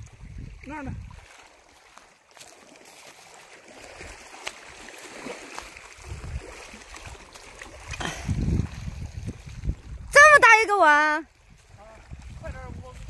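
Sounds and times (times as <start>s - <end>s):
waves lapping on stony shore: 0.0s - 13.0s.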